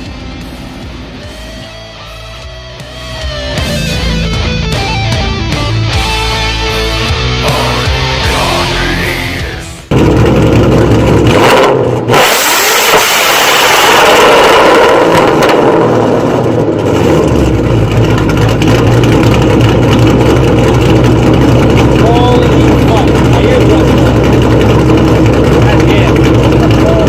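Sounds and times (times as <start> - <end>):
car engine starting and idling: 0.0 - 27.0.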